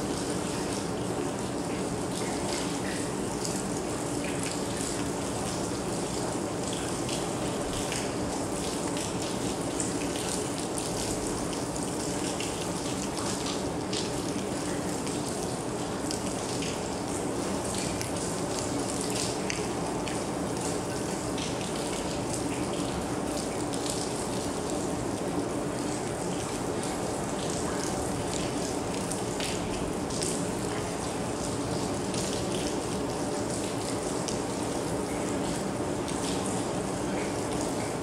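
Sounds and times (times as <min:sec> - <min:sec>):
steady rain falling: 0:00.0 - 0:38.0
raindrops striking hard surfaces: 0:00.1 - 0:38.0.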